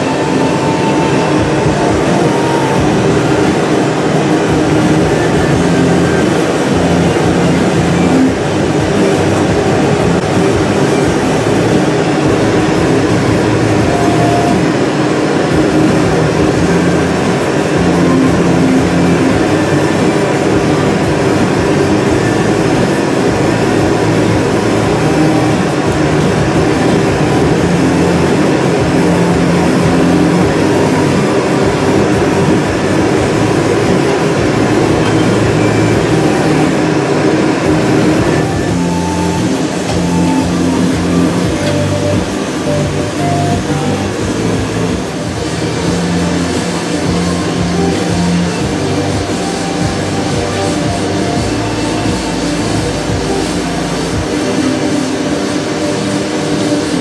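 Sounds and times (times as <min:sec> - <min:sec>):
gas burners roaring: 0:00.0 - 0:57.0
low hum: 0:00.0 - 0:57.0.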